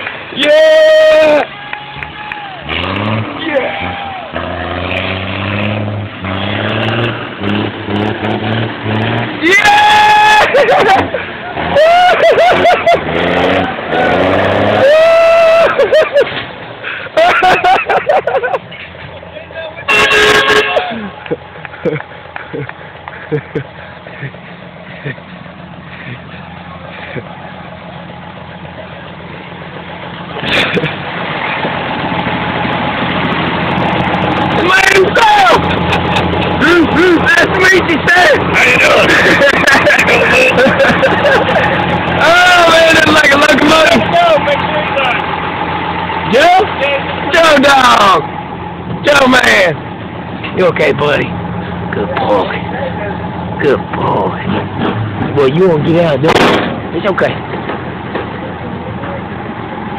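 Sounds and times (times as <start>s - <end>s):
truck engine droning: 0.0s - 59.9s.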